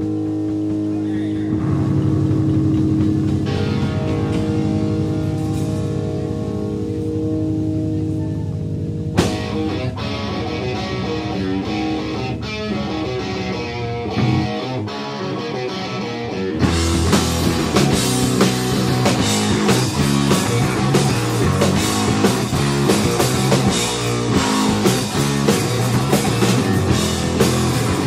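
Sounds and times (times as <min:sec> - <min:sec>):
drum kit: 0:00.0 - 0:28.0
rock guitar: 0:00.0 - 0:28.0.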